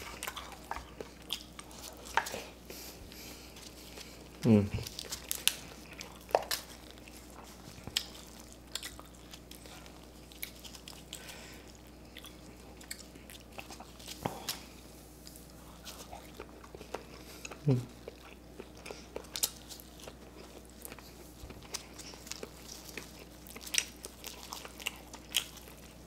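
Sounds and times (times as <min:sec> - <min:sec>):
person chewing crab: 0:00.0 - 0:26.0.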